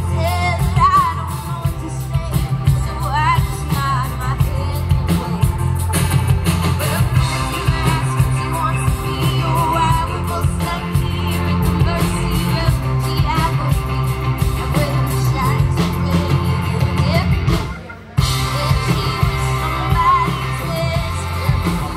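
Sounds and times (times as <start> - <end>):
woman singing: 0.0 - 6.0, 6.7 - 21.9
live band playing: 0.0 - 21.9.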